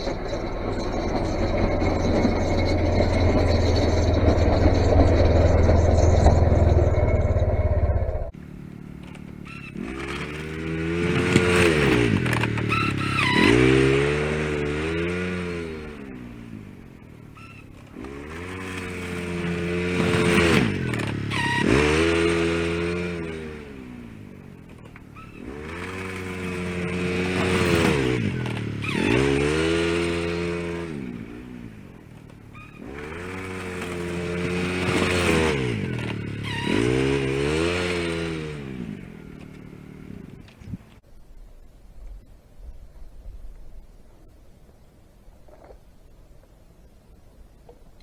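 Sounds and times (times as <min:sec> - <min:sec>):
utility vehicle engine revving: 0:00.0 - 0:41.0.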